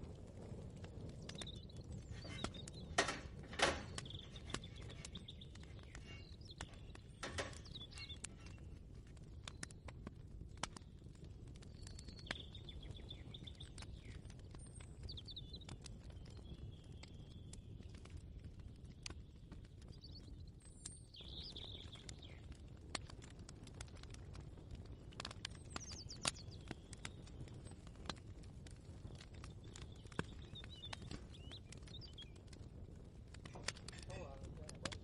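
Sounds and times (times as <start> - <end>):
small birds chirping: 0.4 - 35.0.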